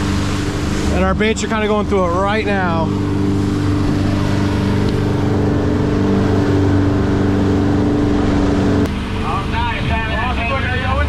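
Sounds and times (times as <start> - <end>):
outboard motor running: 0.0 - 11.0
water rushing: 0.0 - 11.0
wind: 0.0 - 11.0.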